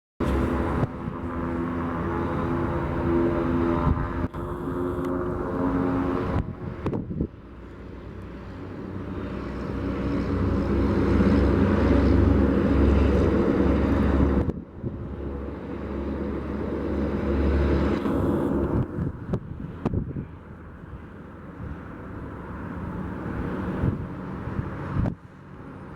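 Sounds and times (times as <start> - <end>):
aircraft engine rumble: 0.2 - 25.9.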